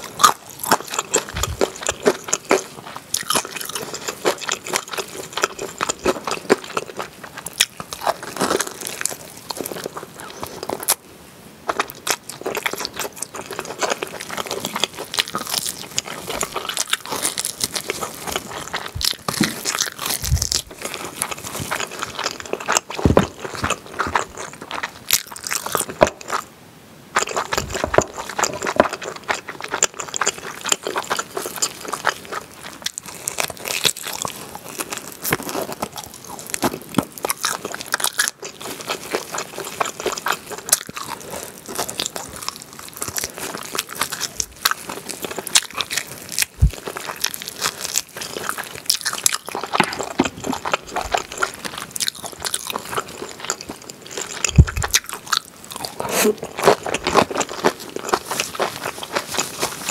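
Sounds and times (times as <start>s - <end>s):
close chewing and crunchy bites: 0.0s - 26.5s, 27.1s - 59.9s.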